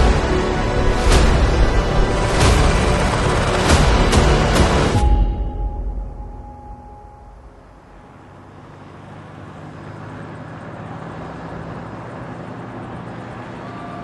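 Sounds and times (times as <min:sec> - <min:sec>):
helicopter engine and rotor: 0:00.0 - 0:05.8, 0:06.4 - 0:14.0.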